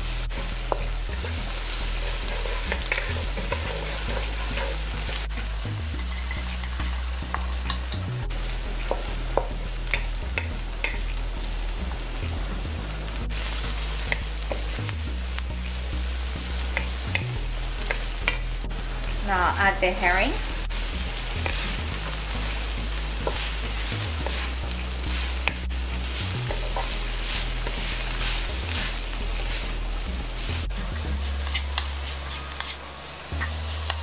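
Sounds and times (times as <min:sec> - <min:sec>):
onion sizzling in hot oil: 0:00.0 - 0:34.0
spatula scraping wok: 0:00.0 - 0:34.0.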